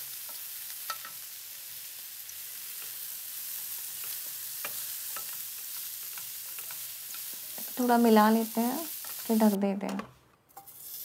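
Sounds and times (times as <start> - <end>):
vegetables sizzling in a pan: 0.0 - 9.9, 10.6 - 11.0.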